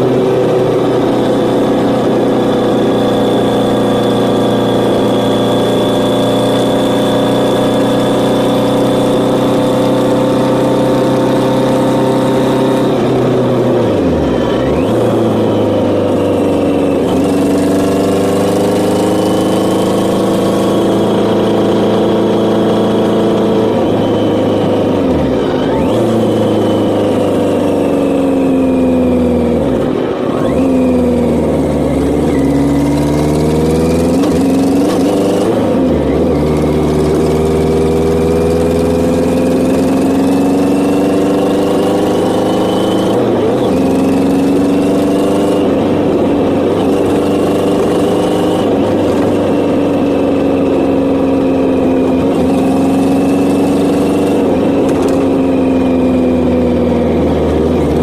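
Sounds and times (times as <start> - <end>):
gear changes: 0.0 - 58.0
motorcycle engine running: 0.0 - 58.0.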